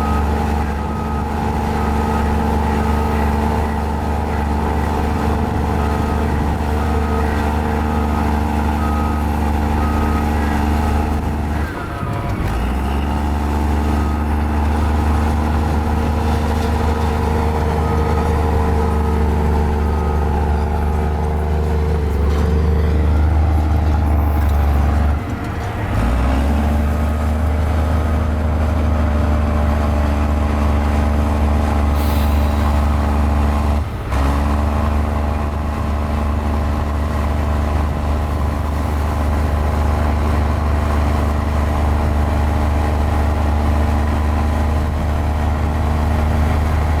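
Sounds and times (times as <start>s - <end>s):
bulldozer diesel engine running: 0.0s - 47.0s.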